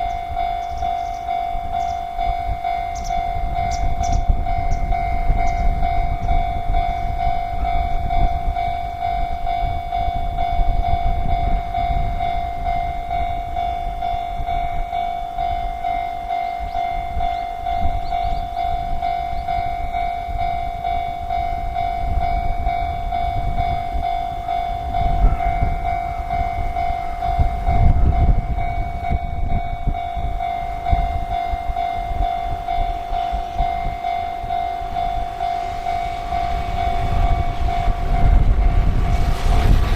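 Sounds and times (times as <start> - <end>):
level crossing warning bell: 0.0 - 39.9
train passing rumble: 0.0 - 39.9.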